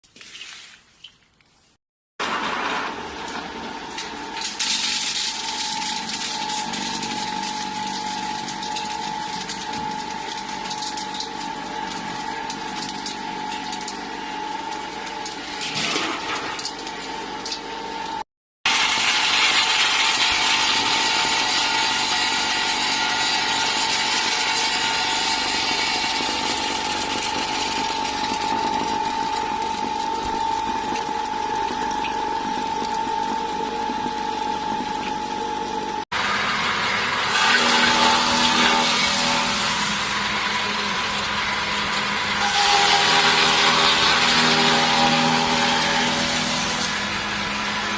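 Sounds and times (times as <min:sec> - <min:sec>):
feed processing machine motor whine: 0:02.2 - 0:47.9.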